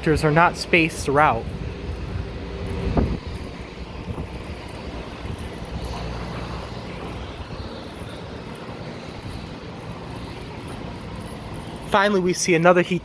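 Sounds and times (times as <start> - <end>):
low rumble: 0.0 - 11.6.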